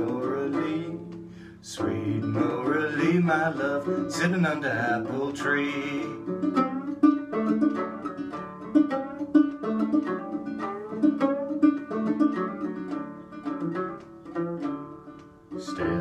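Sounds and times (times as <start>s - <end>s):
banjo plucked notes: 0.0s - 16.0s.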